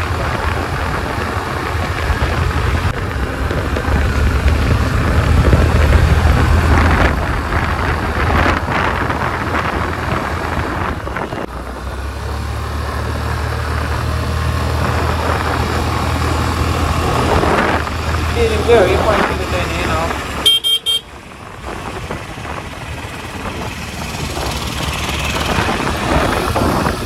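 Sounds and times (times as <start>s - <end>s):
motorcycle engine: 0.0s - 27.0s
road noise: 0.0s - 27.0s
wind buffeting microphone: 0.0s - 27.0s.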